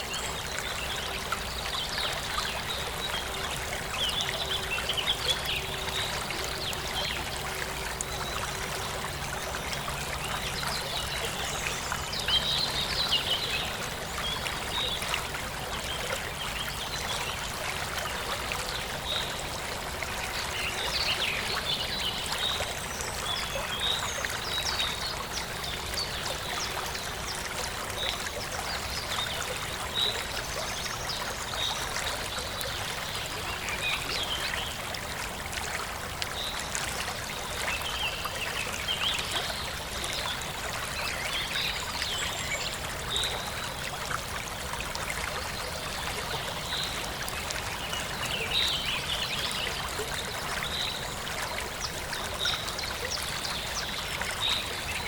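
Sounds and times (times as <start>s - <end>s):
stream flowing and trickling: 0.0s - 55.0s.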